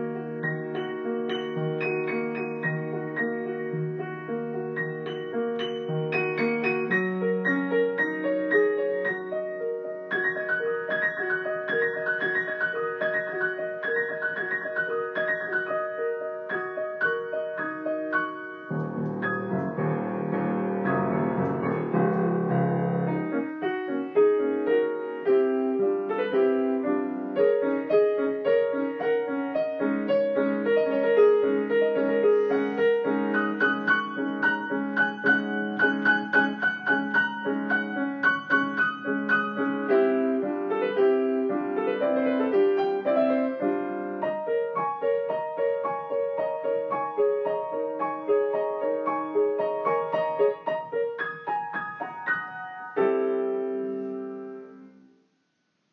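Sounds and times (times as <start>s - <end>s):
solo piano playing: 0.0s - 55.3s.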